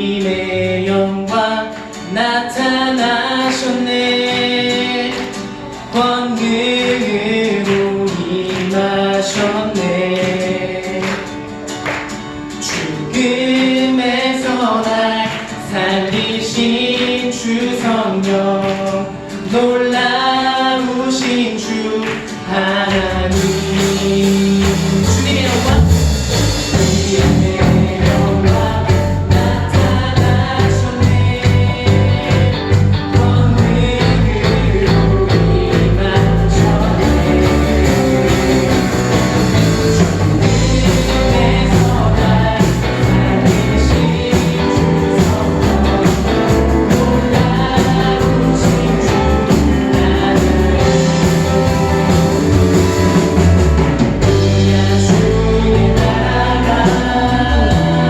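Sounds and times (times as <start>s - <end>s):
person singing: 0.0s - 11.4s, 12.6s - 58.0s
praise band playing: 0.0s - 58.0s.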